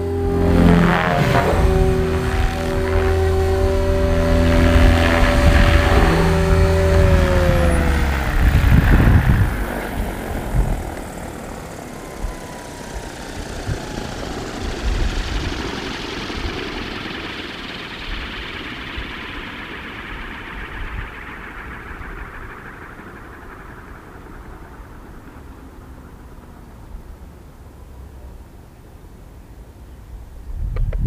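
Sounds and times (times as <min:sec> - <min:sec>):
rc helicopter rotor humming: 0:00.0 - 0:29.4.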